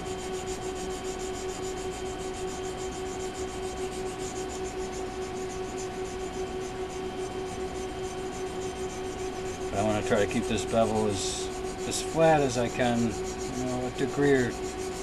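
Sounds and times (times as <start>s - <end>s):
knife blade rubbing on board: 0.0s - 15.0s
steady hum: 0.0s - 15.0s.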